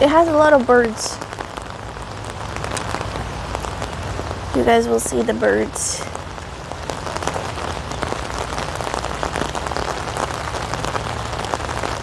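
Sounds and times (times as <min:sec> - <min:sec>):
rain on an umbrella: 0:00.0 - 0:12.0.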